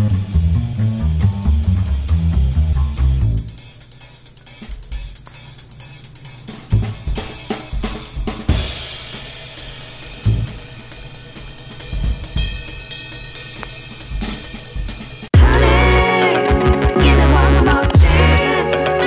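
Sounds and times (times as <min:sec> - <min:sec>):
music with drum beat: 0:00.0 - 0:19.0.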